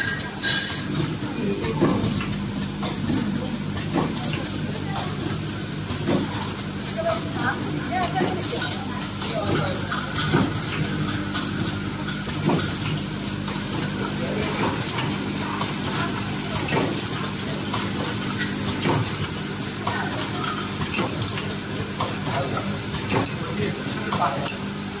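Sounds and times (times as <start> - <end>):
rapid mechanical clicking and clattering: 0.0 - 25.0
machine motor hum: 0.8 - 25.0.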